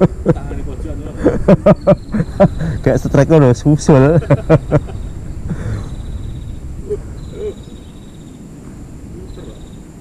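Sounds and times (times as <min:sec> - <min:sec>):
faint high insect trill: 0:00.0 - 0:10.0
low rumble: 0:00.0 - 0:10.0.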